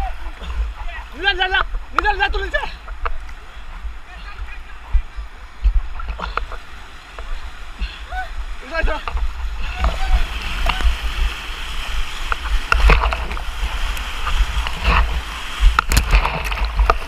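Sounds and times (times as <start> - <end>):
sharp water splashes: 0.0 - 17.0
water buffeting microphone: 0.0 - 17.0
whitewater rushing: 0.0 - 17.0.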